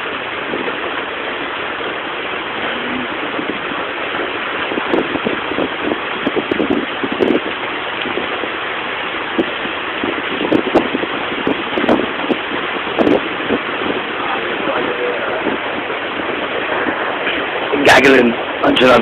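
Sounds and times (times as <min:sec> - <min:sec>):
heavy rain pouring: 0:00.0 - 0:19.0
low bumps and crackles: 0:00.0 - 0:19.0.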